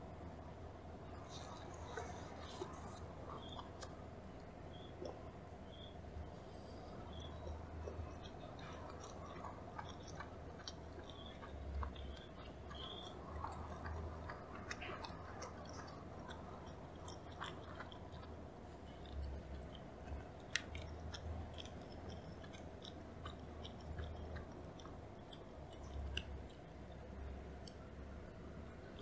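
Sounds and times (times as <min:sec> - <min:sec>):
low steady hum: 0:00.0 - 0:29.0
wet chewing mouth clicks: 0:01.1 - 0:04.0, 0:06.9 - 0:29.0.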